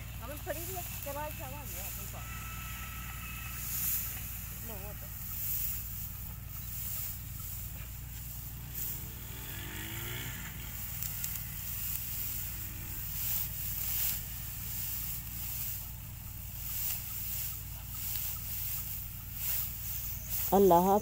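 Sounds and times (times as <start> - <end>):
dry straw rustling: 0.0 - 21.0
steady low drone: 0.0 - 21.0.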